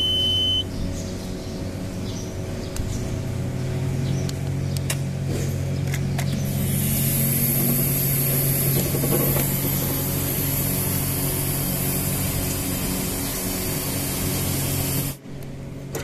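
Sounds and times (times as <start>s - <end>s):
hydraulic pump motor droning: 0.0s - 16.0s.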